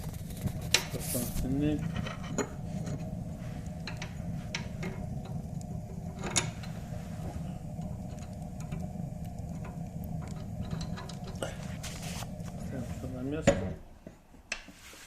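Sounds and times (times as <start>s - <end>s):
low steady rumble: 0.0s - 14.0s
fire crackling and clicking: 0.0s - 14.7s.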